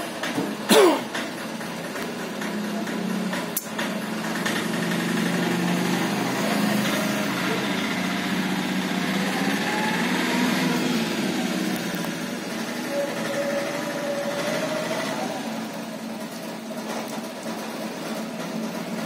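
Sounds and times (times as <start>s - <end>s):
small engine running: 1.1s - 19.0s.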